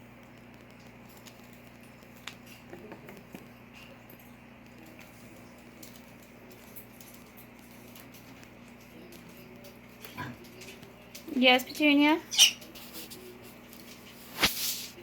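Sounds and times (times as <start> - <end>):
puppies clicking and pattering: 0.2 - 14.1.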